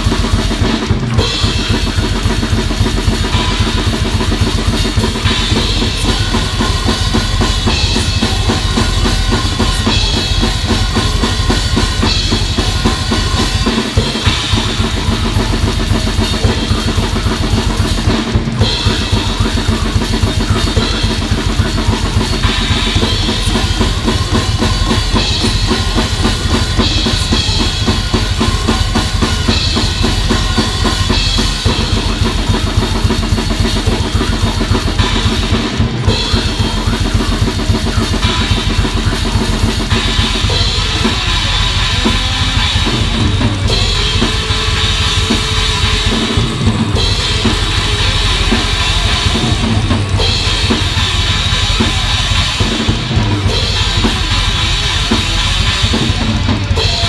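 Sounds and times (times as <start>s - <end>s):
crashing cymbals: 0.0s - 57.0s
rapid kick drum: 0.0s - 57.0s.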